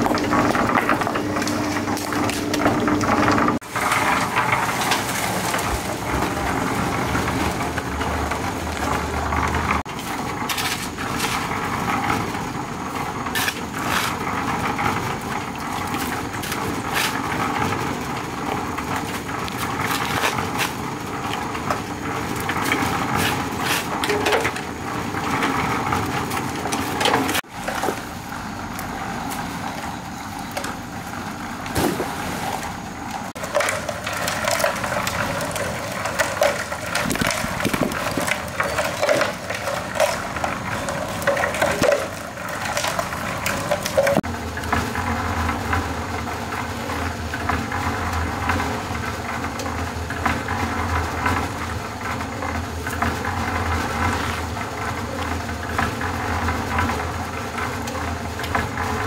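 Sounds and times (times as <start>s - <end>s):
crunching and clattering: 0.0s - 59.0s.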